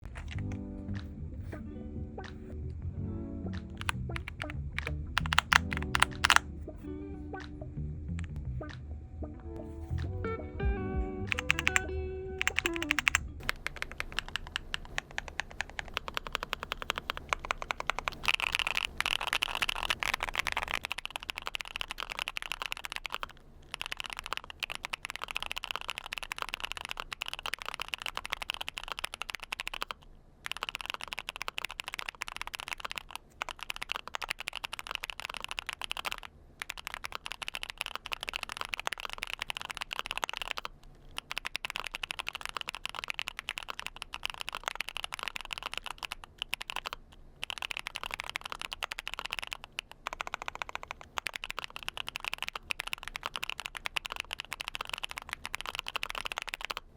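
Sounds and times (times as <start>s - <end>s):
mechanical keyboard typing: 0.0s - 1.0s, 3.6s - 6.5s, 11.3s - 56.9s.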